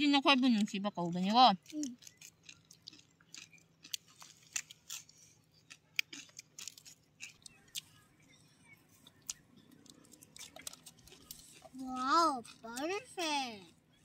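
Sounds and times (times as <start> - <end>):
crunchy chewing: 1.1 - 14.0.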